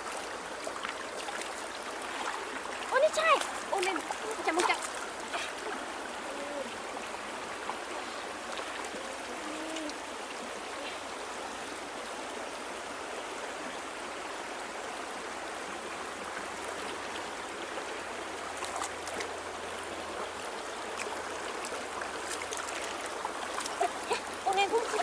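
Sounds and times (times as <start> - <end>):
river stream rushing: 0.0 - 25.0.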